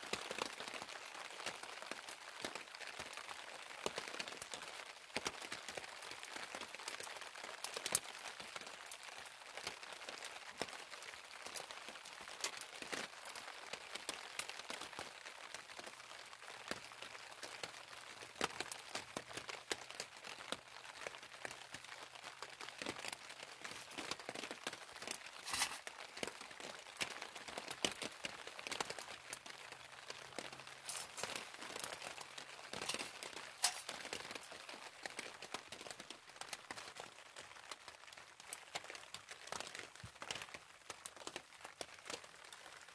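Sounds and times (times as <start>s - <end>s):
rain on plastic tarp: 0.0s - 42.9s.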